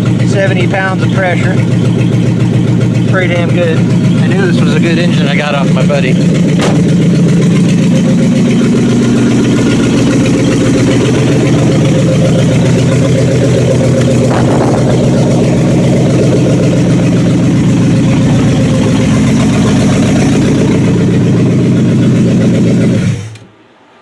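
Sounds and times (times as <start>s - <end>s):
engine idling with open exhaust: 0.0s - 24.0s.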